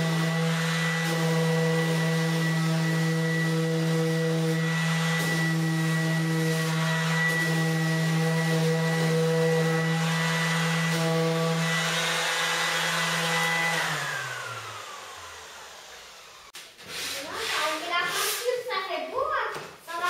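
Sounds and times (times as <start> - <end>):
orbital sander humming and whining: 0.0 - 16.5
sander spinning down: 0.0 - 17.6.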